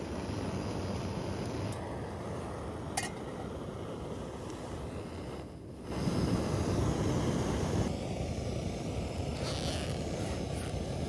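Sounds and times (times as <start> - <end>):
gas stove roaring: 0.0 - 11.0.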